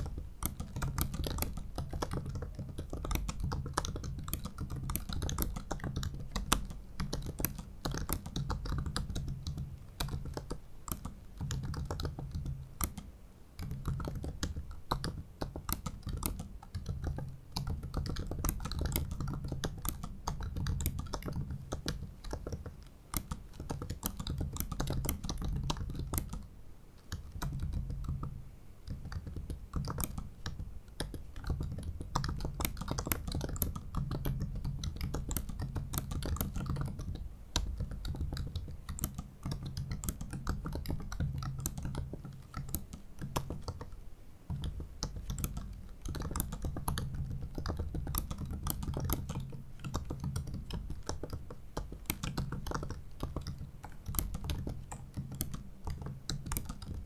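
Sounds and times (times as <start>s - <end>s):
keyboard typing clicks: 0.0s - 57.0s.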